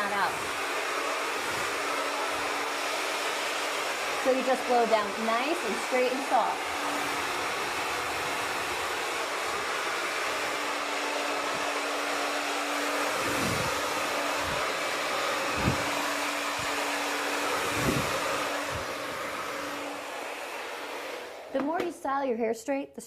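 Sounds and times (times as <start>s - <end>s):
blow dryer running: 0.0s - 22.0s.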